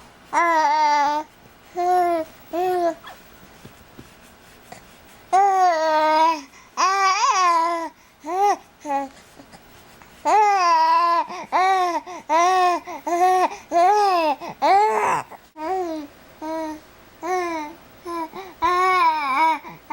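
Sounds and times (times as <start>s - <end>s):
baby babbling: 0.3s - 3.2s, 5.3s - 9.1s, 10.3s - 19.9s.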